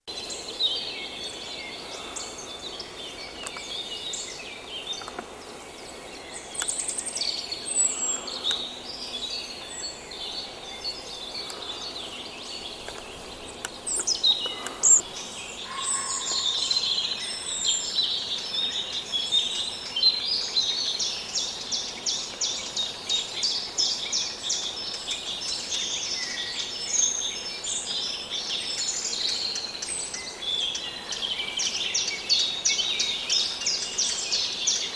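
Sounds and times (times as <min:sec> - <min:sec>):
songbirds chirping and singing: 0:00.0 - 0:34.9
forest ambience hiss: 0:00.1 - 0:34.9.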